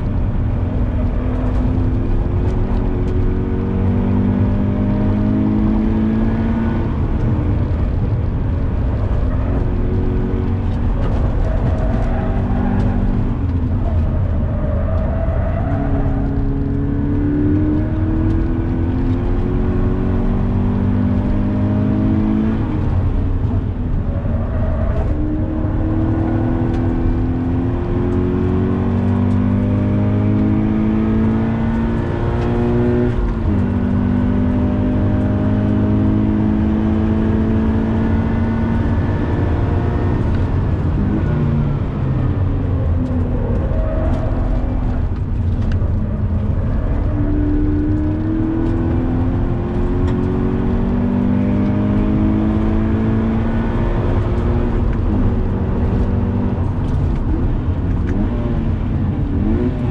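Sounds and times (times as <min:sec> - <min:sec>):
car engine under full throttle: 0:00.0 - 0:59.9
road and tyre rumble: 0:00.0 - 0:59.9.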